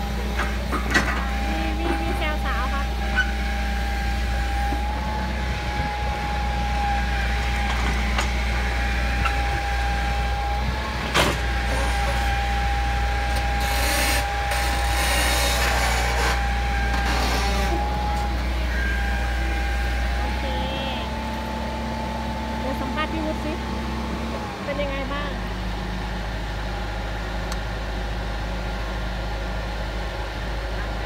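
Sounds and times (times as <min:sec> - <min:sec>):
excavator diesel engine under load: 0:00.0 - 0:31.0
steady high whine: 0:00.0 - 0:31.0.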